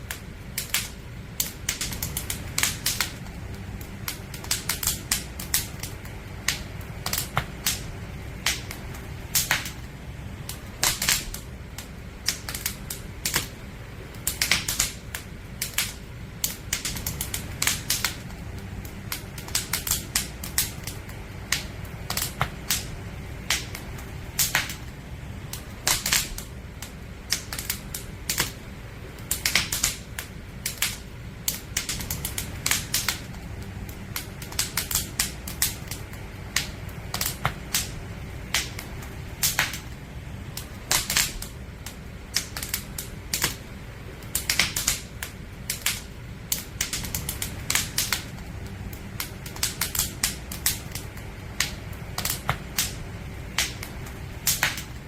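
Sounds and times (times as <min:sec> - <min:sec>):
campfire crackling and popping: 0:00.0 - 0:55.0
low fire rumble: 0:00.0 - 0:55.0.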